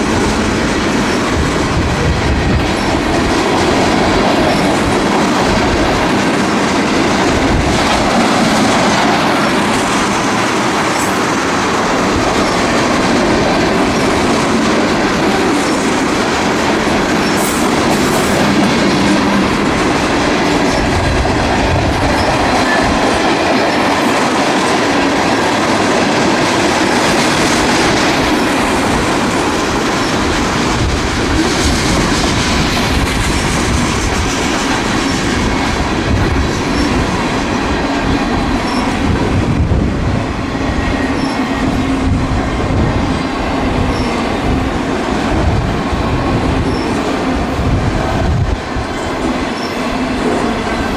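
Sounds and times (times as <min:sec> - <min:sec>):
train wheels on rails: 0:00.0 - 0:50.9.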